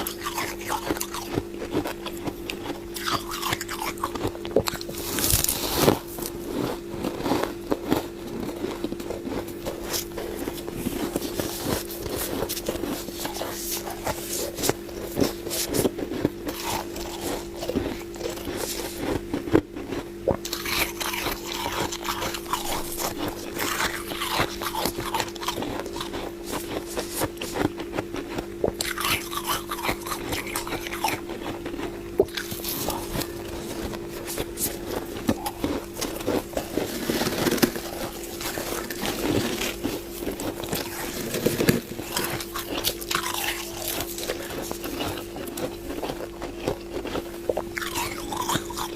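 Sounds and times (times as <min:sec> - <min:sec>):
frost crunching and scraping: 0:00.0 - 0:48.9
steady low hum: 0:00.0 - 0:48.9.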